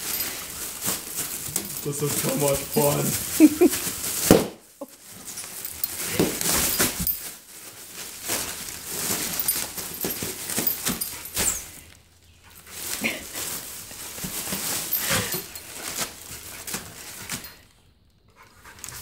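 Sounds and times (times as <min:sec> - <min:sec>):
crinkling of plastic and paper: 0:00.0 - 0:19.0.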